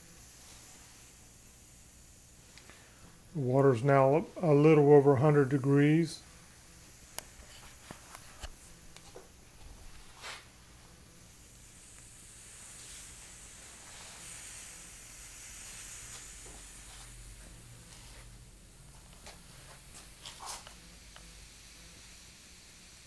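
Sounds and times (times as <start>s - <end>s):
alcohol stove flames hissing: 0.0s - 23.0s
steady low hum: 0.0s - 23.0s.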